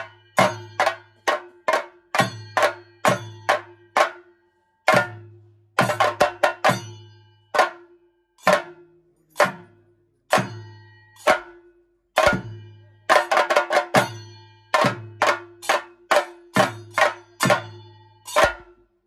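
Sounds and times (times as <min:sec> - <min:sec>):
drums struck with sticks: 0:00.0 - 0:04.3, 0:04.9 - 0:18.9.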